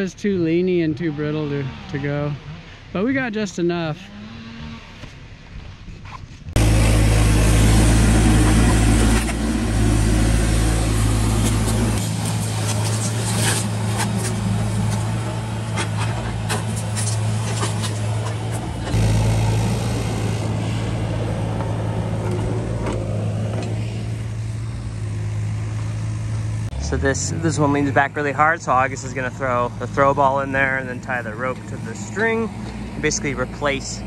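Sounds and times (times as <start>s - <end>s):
diesel excavator engine running: 6.5s - 34.0s.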